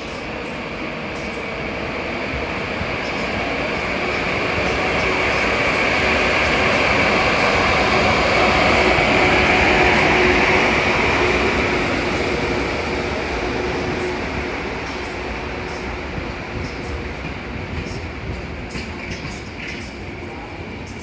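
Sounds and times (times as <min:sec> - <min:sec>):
electric locomotive departing: 0:00.0 - 0:21.0.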